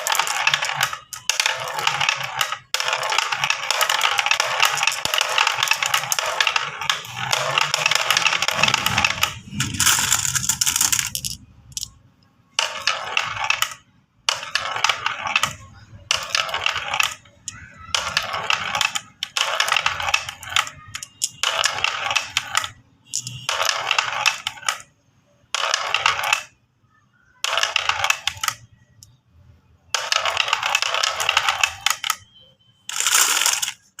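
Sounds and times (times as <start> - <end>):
marbles clattering down track: 0.0 - 26.6, 27.4 - 29.2, 29.8 - 34.0.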